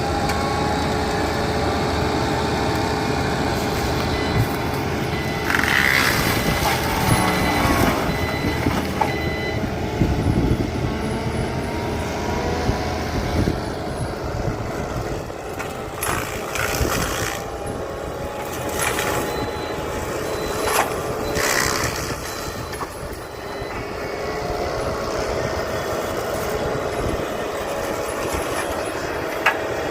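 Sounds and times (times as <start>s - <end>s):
forestry mulcher grinding: 0.0s - 10.0s, 10.6s - 29.9s
skid steer engine running hard: 0.0s - 29.9s.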